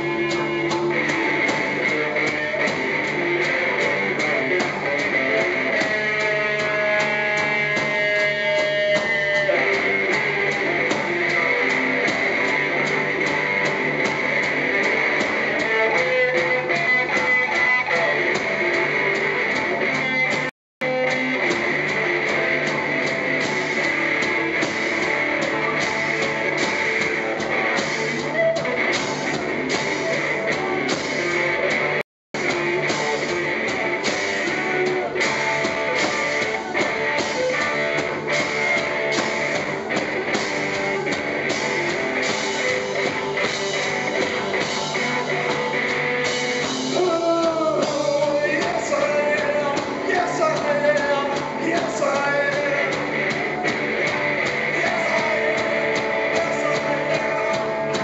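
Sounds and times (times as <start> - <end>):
drums: 0.0 - 58.0
electric guitar: 0.0 - 58.0.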